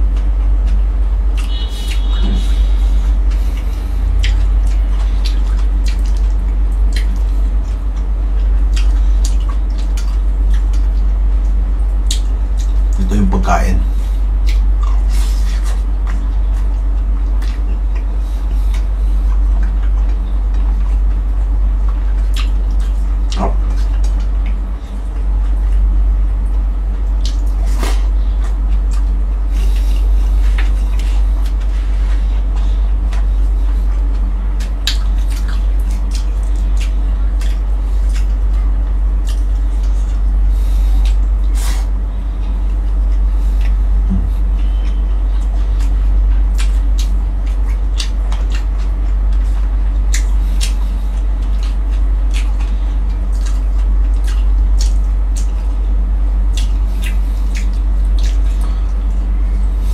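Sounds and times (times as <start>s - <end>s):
chewing and smacking: 0.0s - 13.2s, 13.8s - 59.9s
low hum: 0.0s - 59.9s.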